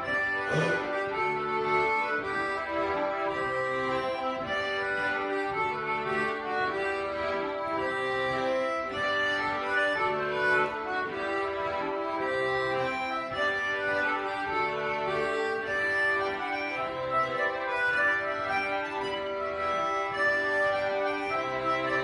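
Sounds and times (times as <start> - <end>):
folk ensemble playing: 0.0 - 22.0.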